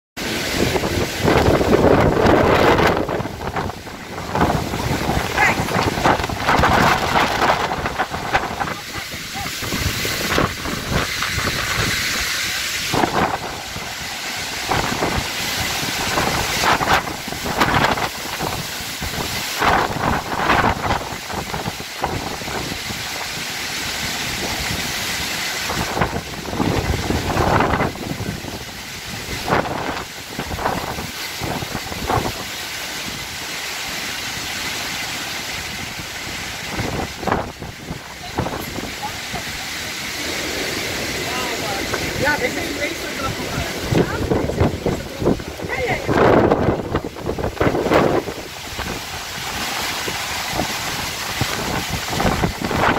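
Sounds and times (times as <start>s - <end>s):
storm wind gusting: 0.2s - 52.9s.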